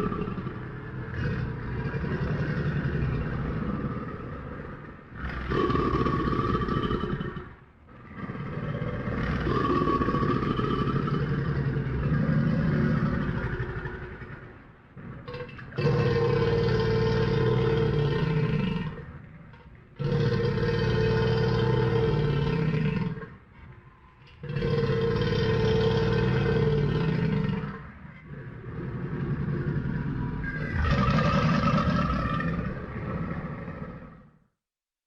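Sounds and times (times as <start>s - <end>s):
crocodile low call: 0.0s - 34.4s.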